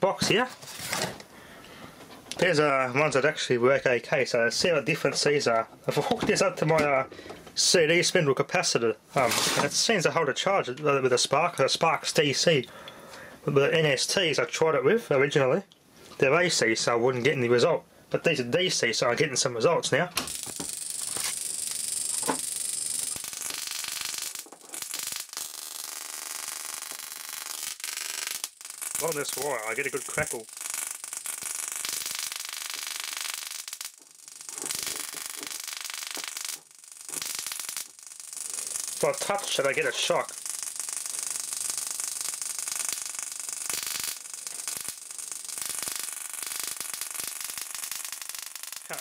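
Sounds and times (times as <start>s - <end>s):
electric sparks buzzing crackle: 0.0s - 1.3s, 2.3s - 12.6s, 18.6s - 49.0s.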